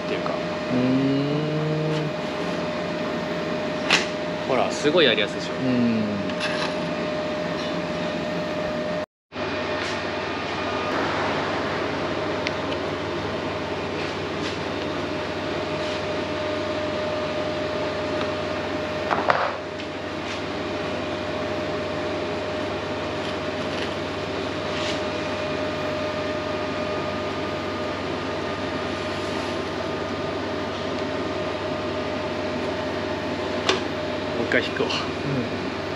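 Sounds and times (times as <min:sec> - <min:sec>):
workshop machine drone: 0:00.0 - 0:35.9.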